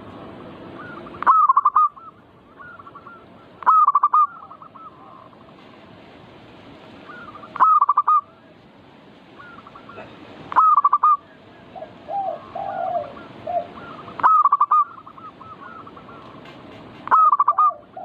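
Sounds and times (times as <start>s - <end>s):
doves cooing: 0.4s - 5.9s, 7.0s - 8.6s, 9.4s - 18.0s.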